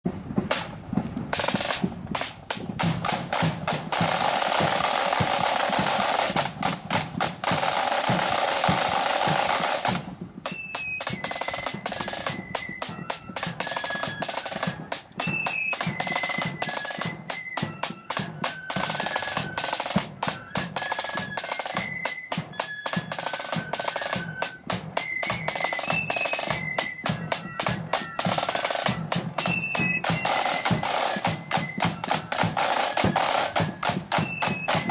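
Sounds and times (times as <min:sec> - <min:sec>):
flutes playing march tune: 0:00.1 - 0:34.9
side drum roll: 0:00.1 - 0:34.9
steady drumbeat: 0:00.1 - 0:34.9.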